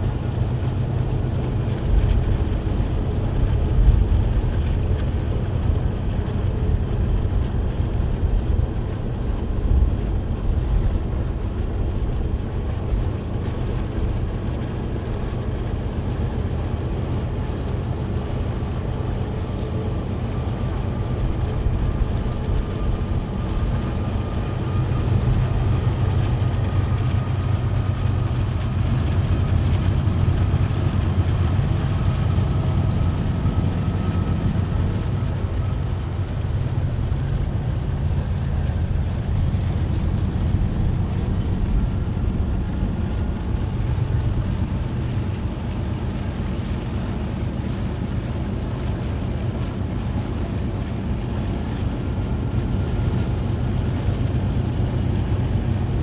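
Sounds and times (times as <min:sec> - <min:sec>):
vehicle road noise: 0:00.0 - 0:45.7
faint whine: 0:00.0 - 0:56.0
locomotive engine drone: 0:00.0 - 0:56.0.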